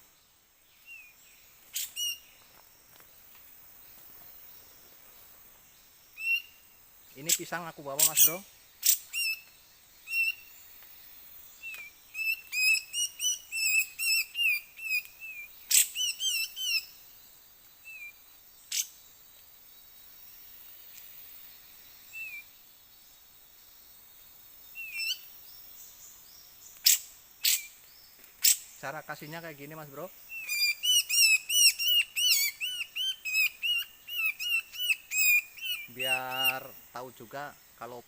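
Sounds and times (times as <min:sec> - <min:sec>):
songbird chirping: 0:00.0 - 0:38.0.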